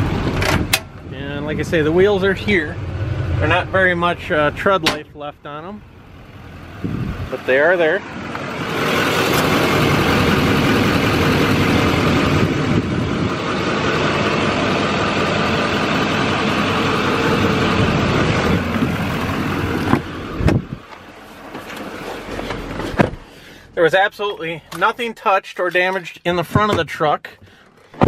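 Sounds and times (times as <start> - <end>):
diesel engine idling: 0.0 - 25.1.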